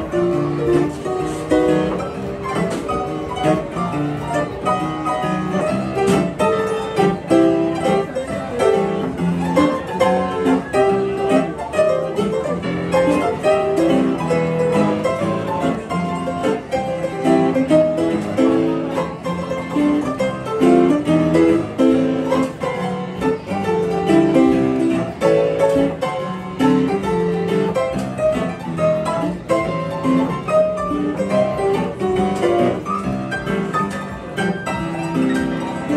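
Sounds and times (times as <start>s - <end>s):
upright piano playing: 0.0s - 35.9s.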